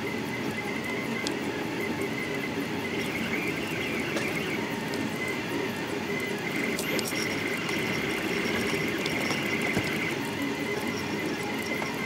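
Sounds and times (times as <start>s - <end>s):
steady high whine: 0.0s - 12.0s
three d printer motors buzzing: 0.0s - 12.0s.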